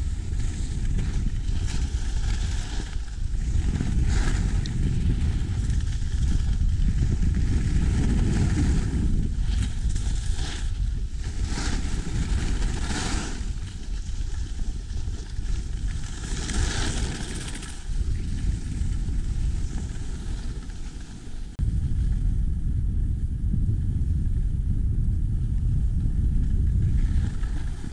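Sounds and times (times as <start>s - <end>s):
skis scraping over snow: 0.0s - 21.6s, 26.5s - 27.9s
wind buffeting microphone: 0.0s - 27.9s.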